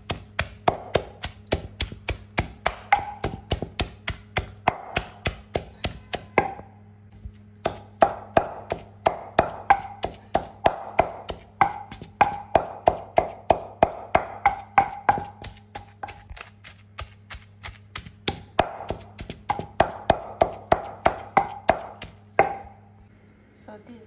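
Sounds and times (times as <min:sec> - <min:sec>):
pestle pounding in a mortar: 0:00.0 - 0:06.6, 0:07.6 - 0:22.8.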